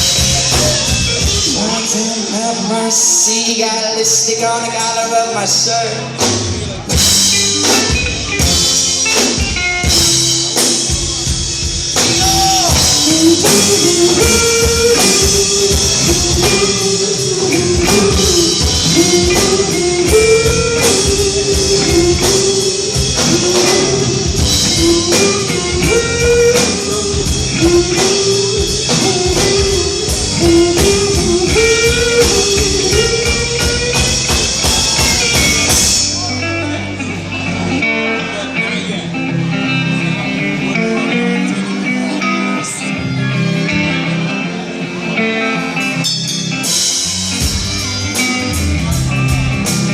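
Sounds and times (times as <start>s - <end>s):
drum kit: 0.0s - 3.3s, 6.0s - 41.7s, 42.7s - 49.9s
electric guitar: 0.0s - 49.9s
lead guitar line: 0.0s - 49.9s.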